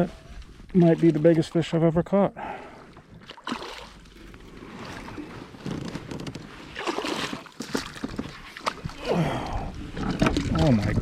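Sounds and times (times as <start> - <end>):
water around kayak: 0.0 - 11.0.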